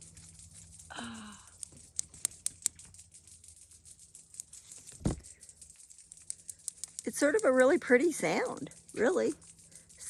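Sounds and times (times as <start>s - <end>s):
cicadas buzzing and clicking: 0.0s - 10.0s.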